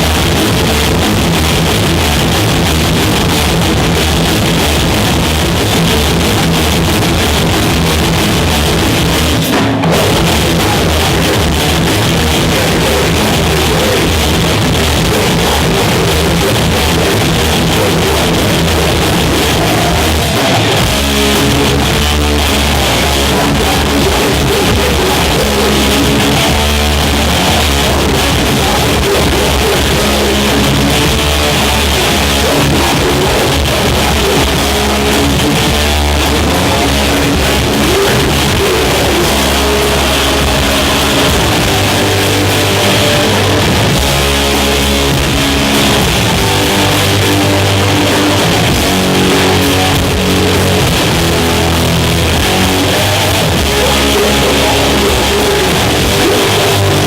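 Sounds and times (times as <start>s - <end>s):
bass guitar: 0.0s - 57.0s
distorted electric guitar: 0.0s - 57.0s
drums: 0.0s - 57.0s.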